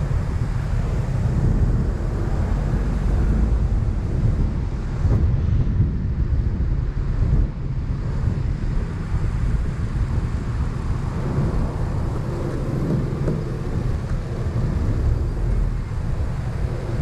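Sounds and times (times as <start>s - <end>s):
moving vehicle noise: 0.0s - 17.0s
wind buffeting microphone: 0.0s - 17.0s.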